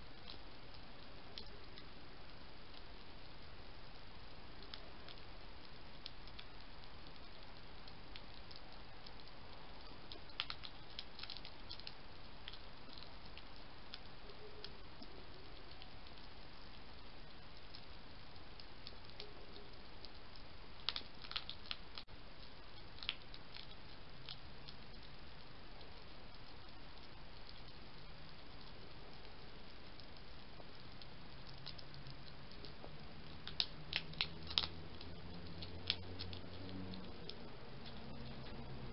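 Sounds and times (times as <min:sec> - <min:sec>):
steady hiss: 0:00.0 - 0:38.9
hedgehog crunching dry food: 0:04.6 - 0:38.9.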